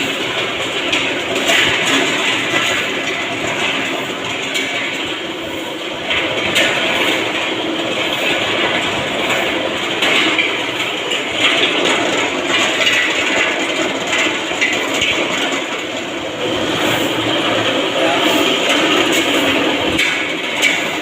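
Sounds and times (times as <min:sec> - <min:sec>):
machinery clattering and rumbling: 0:00.0 - 0:21.0.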